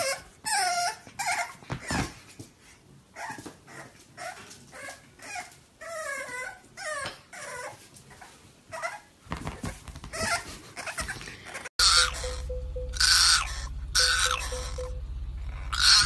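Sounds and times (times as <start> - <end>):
puppy whimpering and whining: 0.0 - 2.2, 3.1 - 9.1, 10.1 - 16.0.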